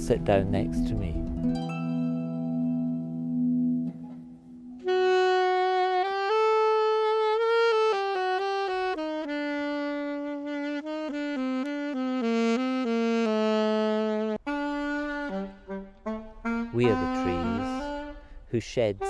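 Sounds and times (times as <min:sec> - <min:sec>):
alto saxophone melody: 0:02.8 - 0:19.0.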